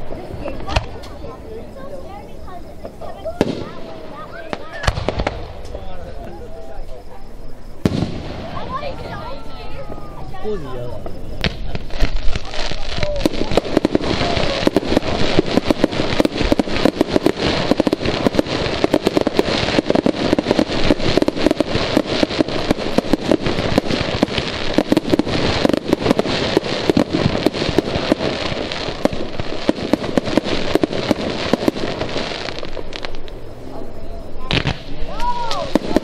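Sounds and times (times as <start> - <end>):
fireworks popping and crackling: 0.0 - 36.0.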